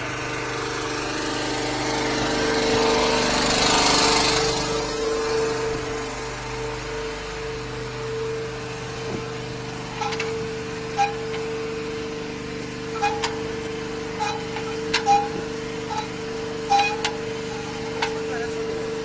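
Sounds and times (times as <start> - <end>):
drain-cleaning machine humming: 0.0 - 19.0.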